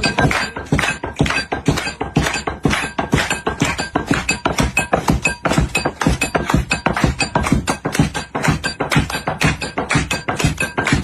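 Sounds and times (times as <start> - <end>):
pestle pounding in a mortar: 0.0 - 11.0.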